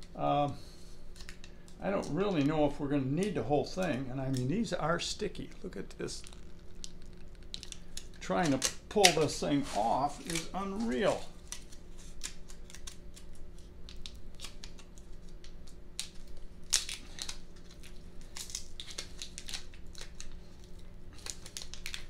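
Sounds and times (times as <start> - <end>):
faint steady hum: 0.0 - 22.0
rubber strip crackling and tearing: 3.8 - 22.0.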